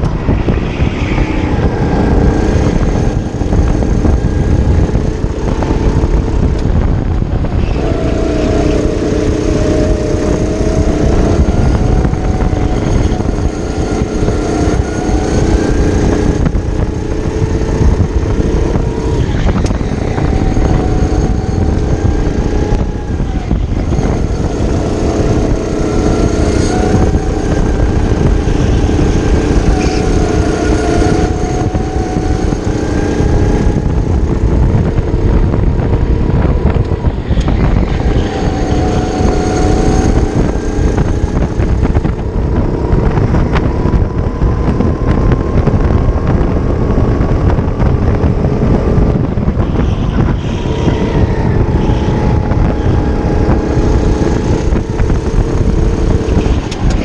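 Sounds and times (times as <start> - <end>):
kart engine revving: 0.0 - 57.0
wind rumble on microphone: 0.0 - 57.0.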